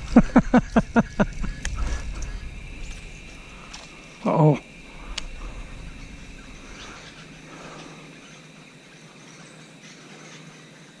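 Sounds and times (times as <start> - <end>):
steady high-pitched hum: 0.0 - 11.0.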